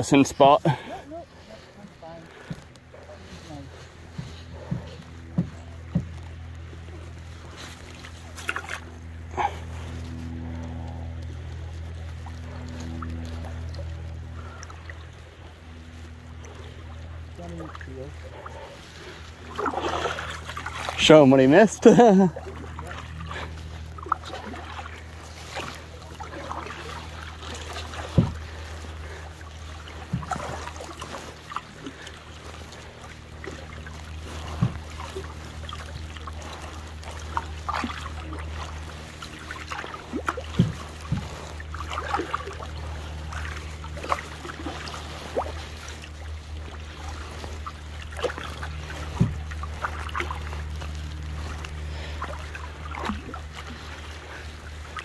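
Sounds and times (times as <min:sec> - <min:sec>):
paddle splashing water: 0:00.0 - 0:55.0
steady low rumble: 0:00.0 - 0:55.0.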